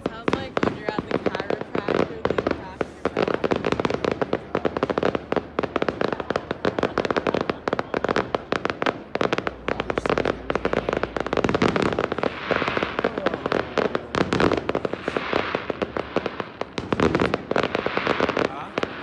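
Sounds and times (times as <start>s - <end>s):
fireworks crackling pops: 0.0s - 19.0s.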